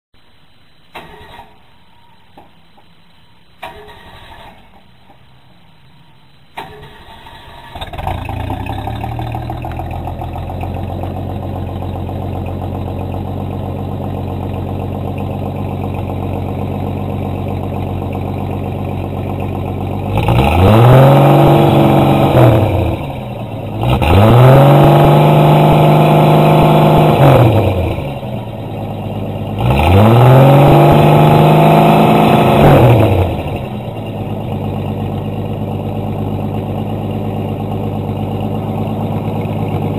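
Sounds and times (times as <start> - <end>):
car engine idling: 1.6 - 39.9
car engine revving: 6.2 - 39.9.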